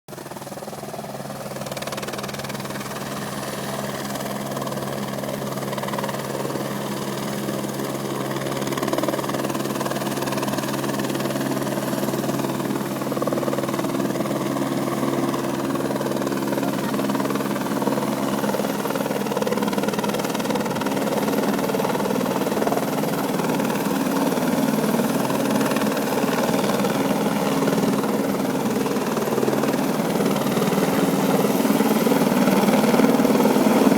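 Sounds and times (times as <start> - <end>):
helicopter running: 0.1 - 33.9.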